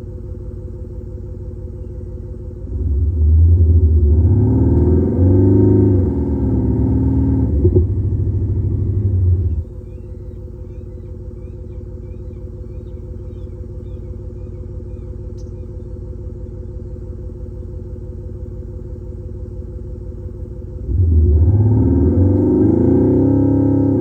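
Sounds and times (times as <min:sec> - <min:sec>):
simulated exhaust idle rumble: 0:00.0 - 0:24.0.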